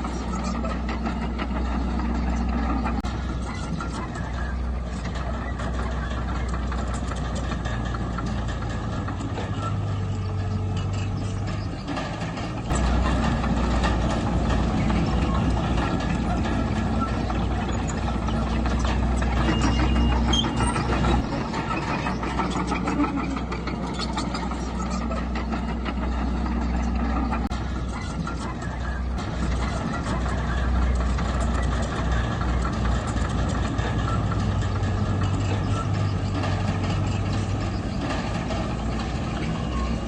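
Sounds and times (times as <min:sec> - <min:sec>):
heavy machinery diesel engine: 0:00.0 - 0:40.0.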